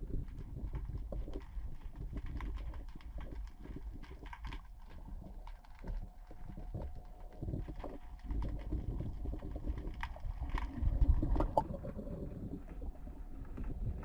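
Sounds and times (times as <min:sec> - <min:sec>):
low underwater rumble: 0:00.0 - 0:14.0.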